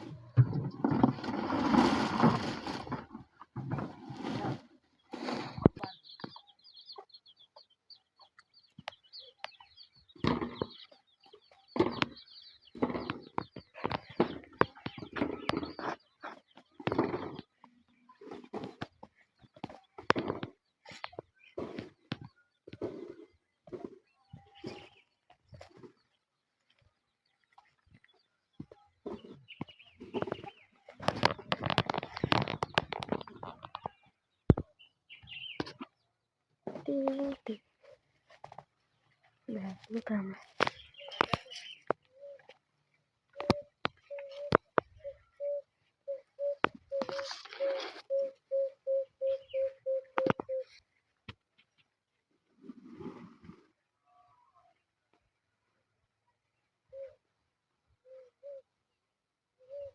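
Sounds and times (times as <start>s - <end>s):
chickens clucking: 0.0s - 52.0s
birds chirping: 0.0s - 52.5s, 53.6s - 59.9s.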